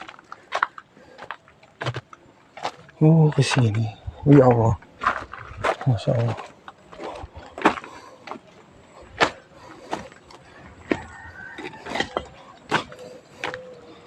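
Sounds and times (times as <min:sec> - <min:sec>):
footsteps walking: 0:00.0 - 0:13.8.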